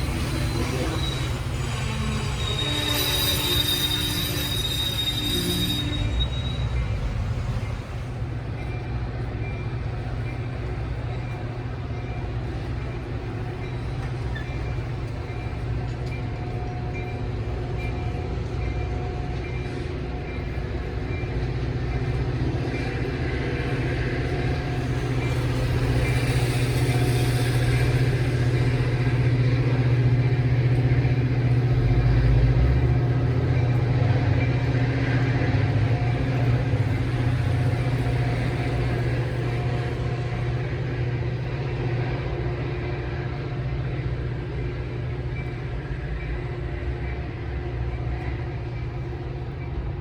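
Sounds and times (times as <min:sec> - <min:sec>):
diesel train passing: 0:00.0 - 0:50.0.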